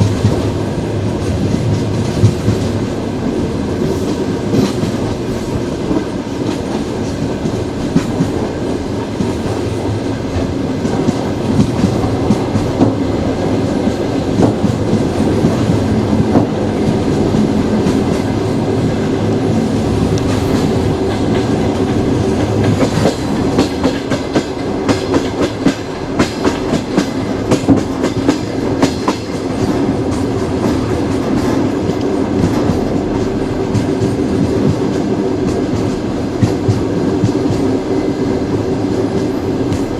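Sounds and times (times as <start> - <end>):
train wheels rumbling on rails: 0.0 - 39.9
wheels clickety-clack: 3.8 - 18.6, 19.8 - 37.8.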